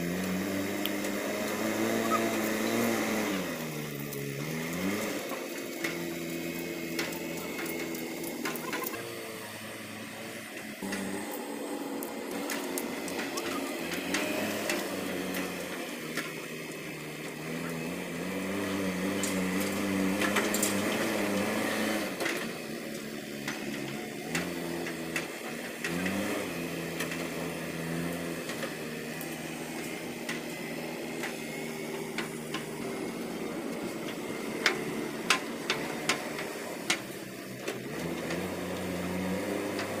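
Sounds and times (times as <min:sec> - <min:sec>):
diesel engine revving: 0:00.0 - 0:40.0.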